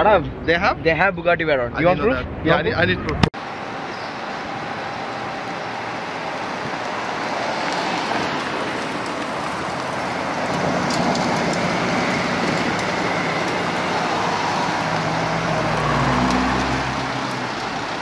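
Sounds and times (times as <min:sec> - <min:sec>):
road noise: 0:00.0 - 0:18.0
supercar engines rumbling: 0:02.2 - 0:18.0.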